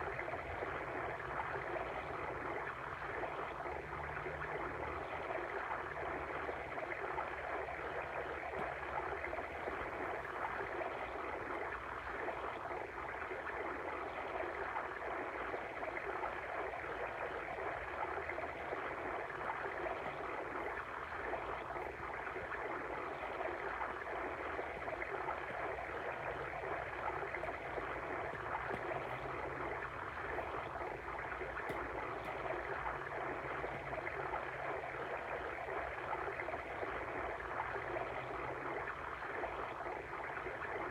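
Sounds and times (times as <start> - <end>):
brook running: 0.0 - 40.9.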